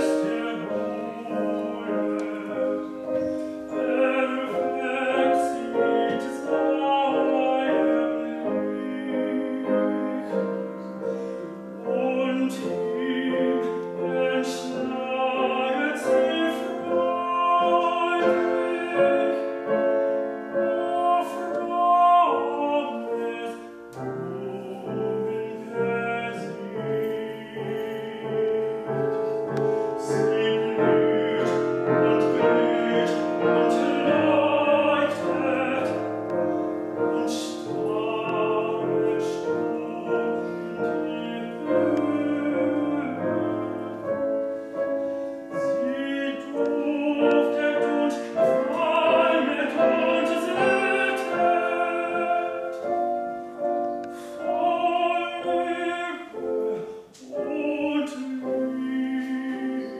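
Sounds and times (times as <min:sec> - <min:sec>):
man singing classical song: 0:00.0 - 0:59.9
piano accompaniment: 0:00.0 - 0:59.9.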